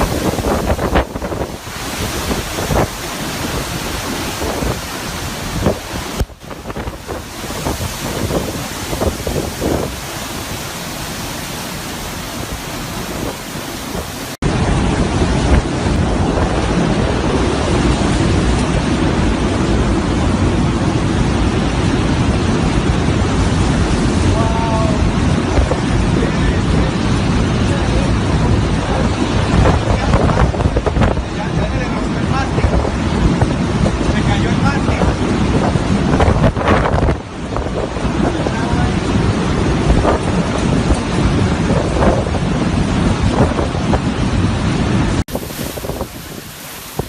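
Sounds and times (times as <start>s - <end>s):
hurricane wind roaring: 0.0s - 47.0s.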